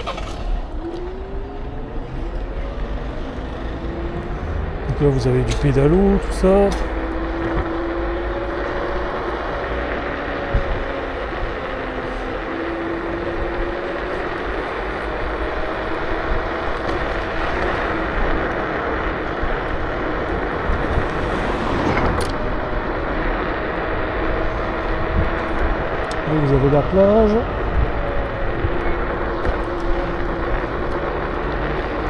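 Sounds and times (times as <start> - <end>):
wind and tyre noise: 0.0 - 32.0.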